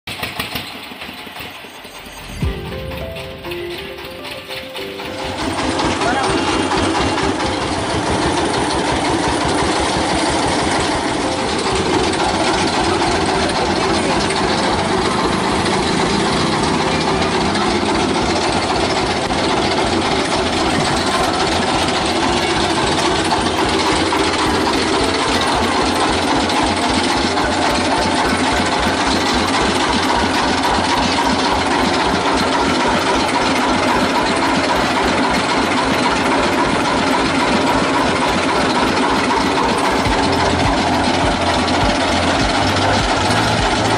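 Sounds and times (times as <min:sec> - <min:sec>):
engine running steadily: 0:00.1 - 0:43.9.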